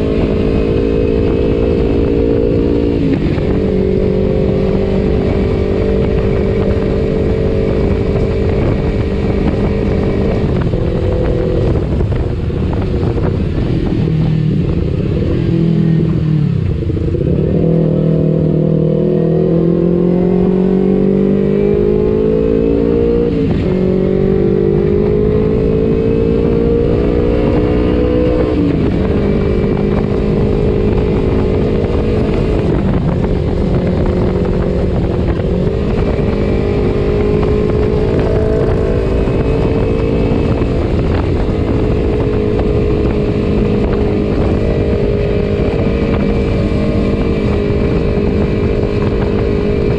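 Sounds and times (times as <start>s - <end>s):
motorcycle engine revving through gears: 0.0s - 49.9s.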